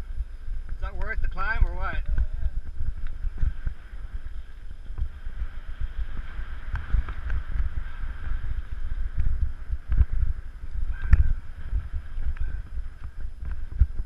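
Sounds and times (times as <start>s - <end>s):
tyre and trail noise: 0.0s - 14.0s
wind buffeting microphone: 0.0s - 14.0s.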